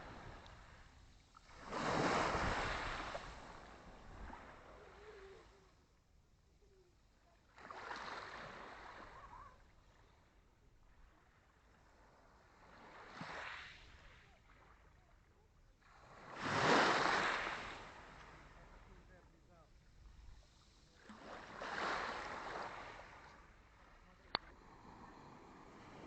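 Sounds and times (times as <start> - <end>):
small waves breaking on shore: 0.0 - 5.8, 7.4 - 26.0.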